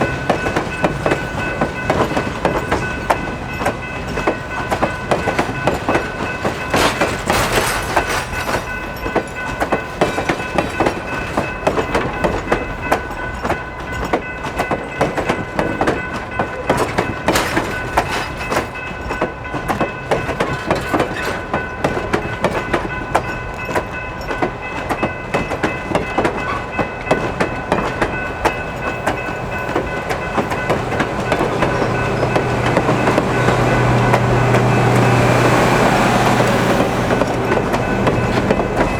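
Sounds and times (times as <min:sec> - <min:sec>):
steam locomotive running gear clatter: 0:00.0 - 0:38.9.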